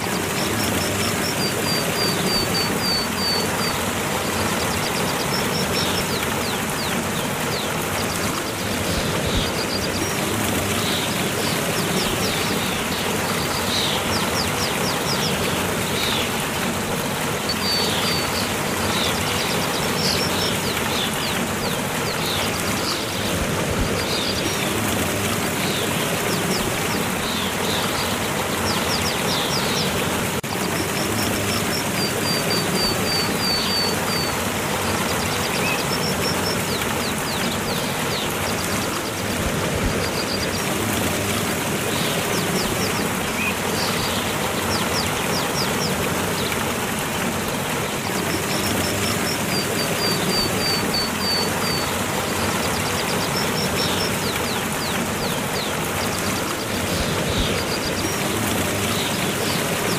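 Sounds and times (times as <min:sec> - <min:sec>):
running water hiss: 0:00.0 - 0:59.9
small birds chirping: 0:00.0 - 0:59.9.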